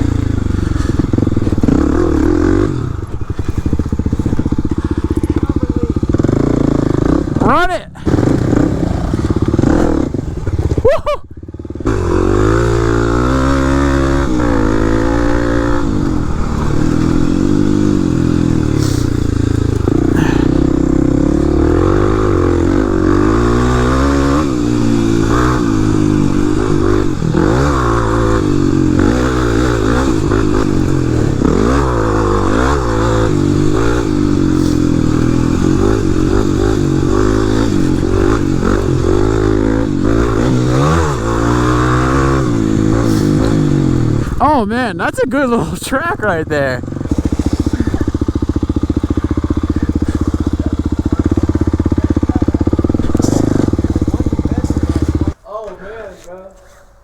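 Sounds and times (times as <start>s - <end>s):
dirt bike engine revving: 0.0s - 55.4s.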